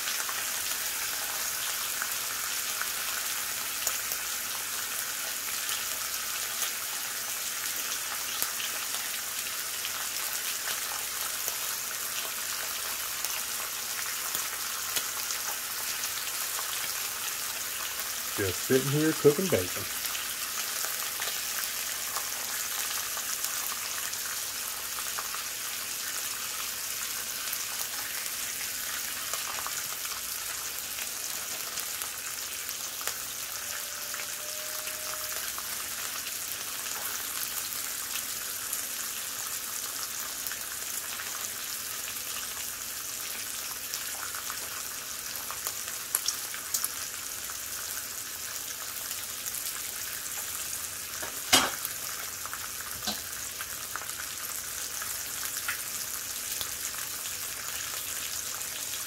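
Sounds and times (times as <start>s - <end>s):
bacon sizzling on a griddle: 0.0s - 59.0s.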